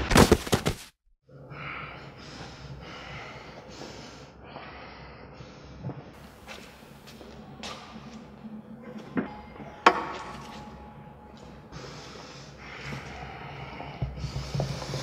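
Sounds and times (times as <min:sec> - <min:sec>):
man breathing heavily: 0:01.3 - 0:15.0.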